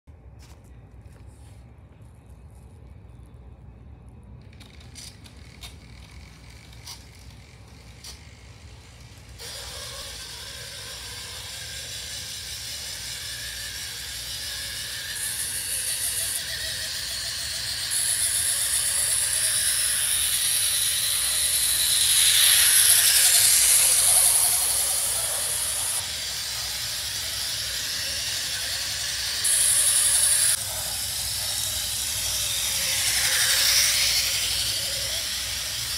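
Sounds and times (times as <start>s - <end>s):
model train wheels and motors hissing: 4.3s - 35.9s
model train clicking: 4.4s - 35.9s.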